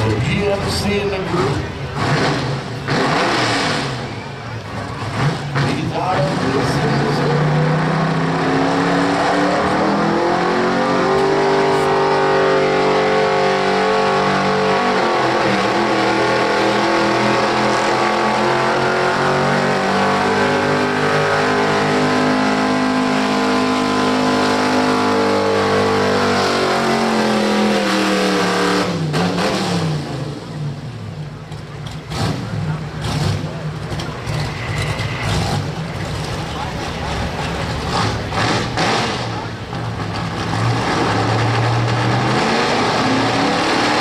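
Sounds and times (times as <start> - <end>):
truck engine revving hard: 0.0 - 44.0.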